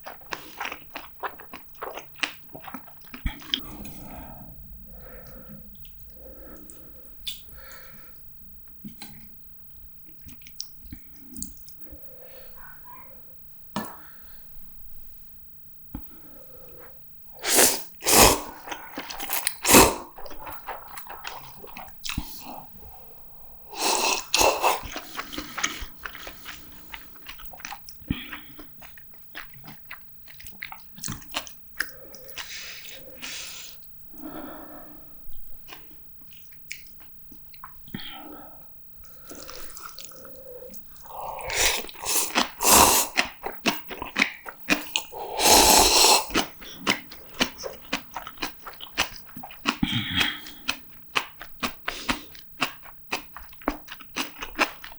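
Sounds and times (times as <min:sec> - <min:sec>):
bites and wet chewing: 0:00.0 - 0:12.8, 0:15.9 - 0:54.9.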